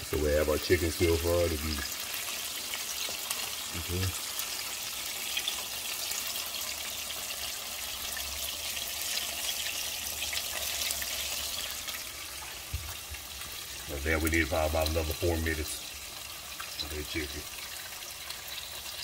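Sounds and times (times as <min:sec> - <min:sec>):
wings deep-frying in oil: 0:00.0 - 0:19.0.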